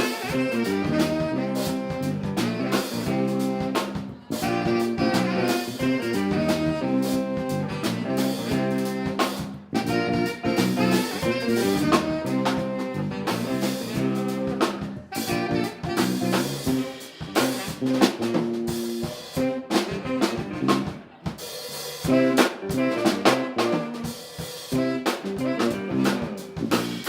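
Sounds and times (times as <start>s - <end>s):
live band instrumental: 0.0s - 27.0s.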